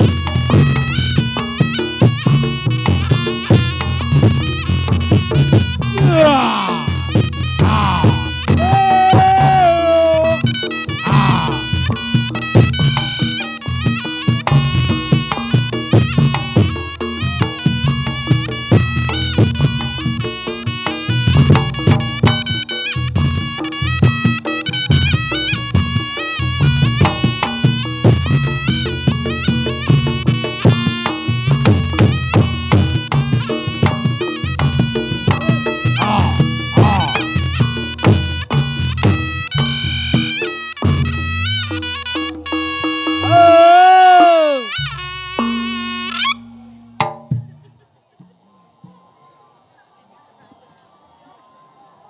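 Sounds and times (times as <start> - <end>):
reedy nasal wind instrument melody: 0.0 - 46.7
drum and gong-chime percussion: 0.0 - 47.6.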